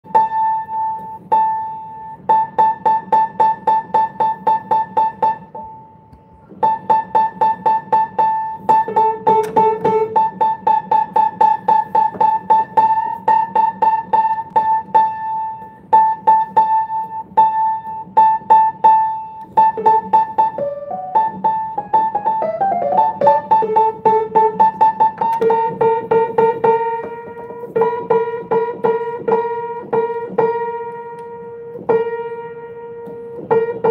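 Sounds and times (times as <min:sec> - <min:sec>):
piano note struck repeatedly: 0:00.0 - 0:33.9.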